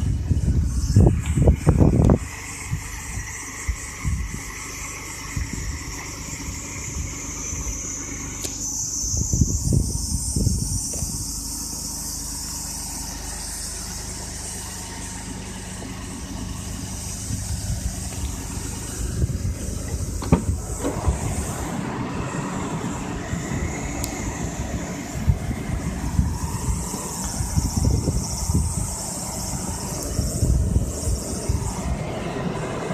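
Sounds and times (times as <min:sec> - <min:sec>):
high hiss: 0:00.0 - 0:32.9
small car engine running: 0:00.0 - 0:32.9.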